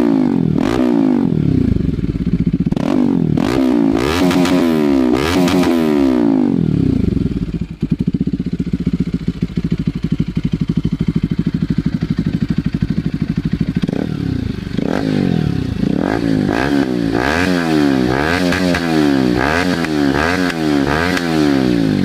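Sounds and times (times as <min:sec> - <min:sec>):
motorcycle engine revving and idling: 0:00.0 - 0:22.0.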